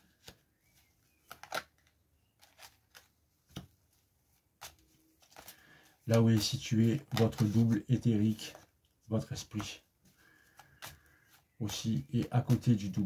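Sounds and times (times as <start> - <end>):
cards shuffling: 0.1 - 4.0, 4.6 - 8.7, 9.3 - 13.0.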